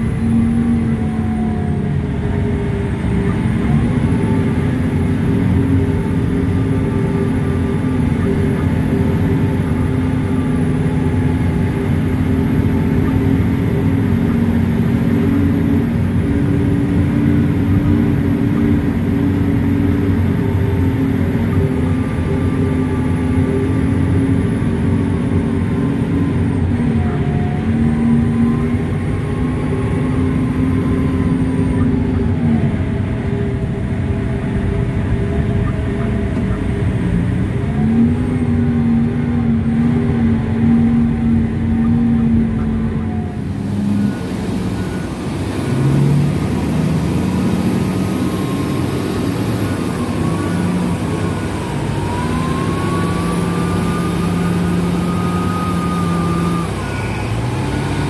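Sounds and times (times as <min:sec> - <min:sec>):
truck diesel engine driving by: 0:00.0 - 0:58.0
truck diesel engine from inside cab: 0:00.0 - 0:58.0.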